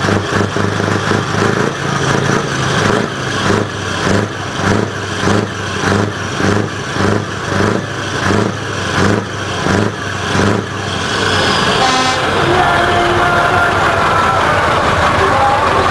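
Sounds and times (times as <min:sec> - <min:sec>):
truck engine revving: 0:00.0 - 0:15.9.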